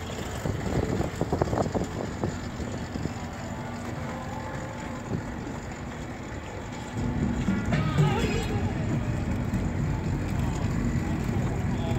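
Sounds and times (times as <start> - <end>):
low hum: 0.0 - 11.9
pedicab road noise: 0.0 - 11.9.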